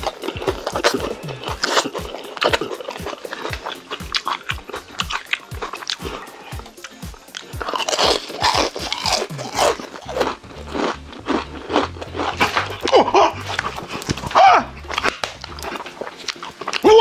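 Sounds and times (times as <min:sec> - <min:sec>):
crunching fried chicken: 0:00.0 - 0:17.0
faint music: 0:00.0 - 0:17.0.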